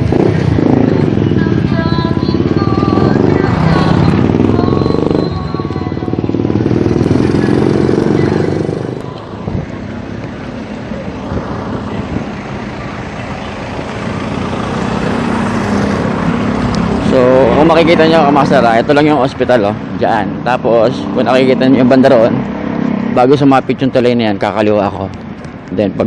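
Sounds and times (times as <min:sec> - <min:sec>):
motorcycle engine running: 0:00.0 - 0:26.0
road traffic hum: 0:00.0 - 0:26.0.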